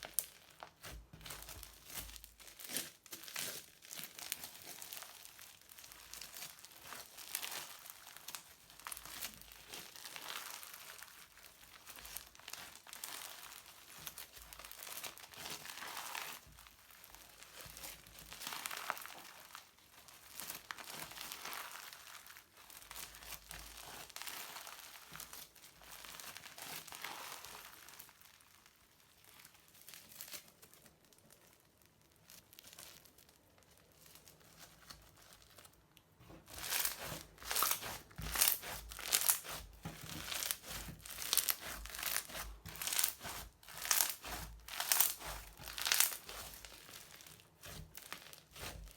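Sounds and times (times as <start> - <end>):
crunchy slime squeezed by hand: 0.0 - 28.0, 36.4 - 48.9.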